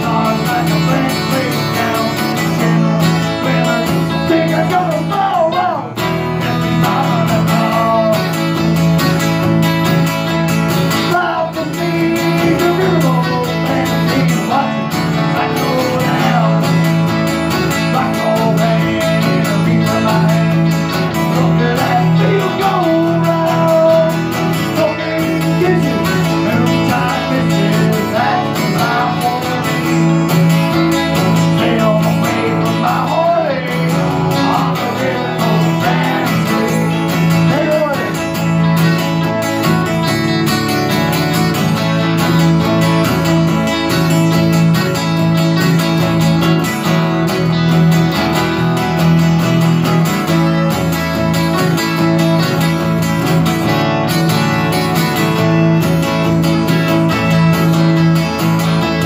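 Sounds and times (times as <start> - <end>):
strummed acoustic guitar: 0.0 - 59.0.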